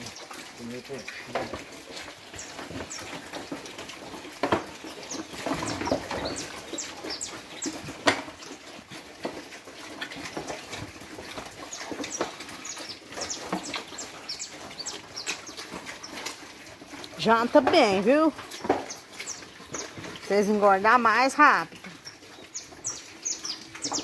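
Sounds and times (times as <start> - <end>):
pigs chewing and slurping: 0.0 - 24.0.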